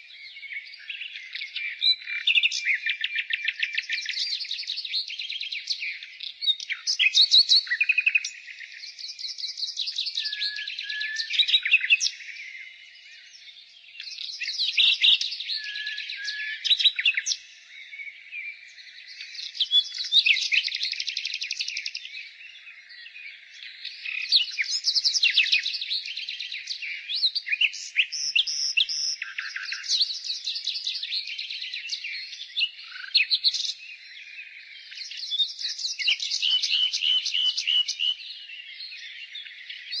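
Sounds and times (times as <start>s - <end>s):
nightingale singing: 0.0s - 40.0s.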